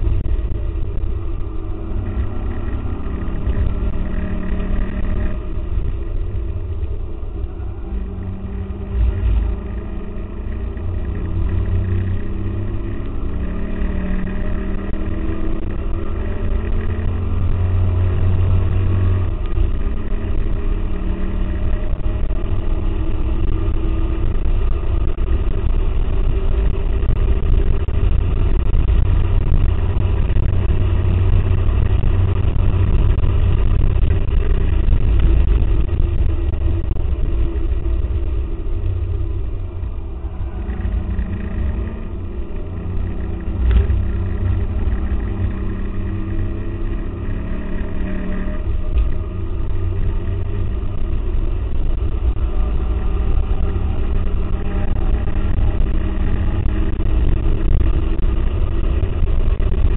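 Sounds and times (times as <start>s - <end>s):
car engine under hard driving: 0.0s - 59.9s.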